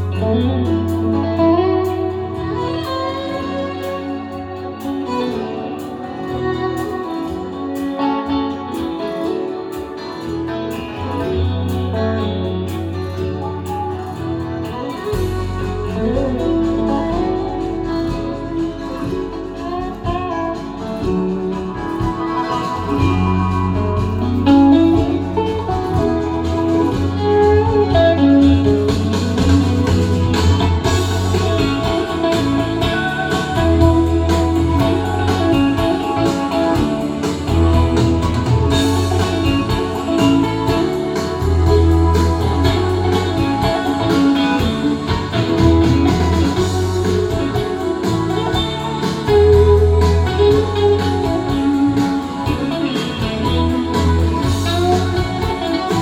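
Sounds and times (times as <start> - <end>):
fiddle melody: 0.0 - 56.0
guitar melody: 0.0 - 56.0
instrumental music over loudspeakers: 0.0 - 56.0
steady bass line: 0.0 - 56.0.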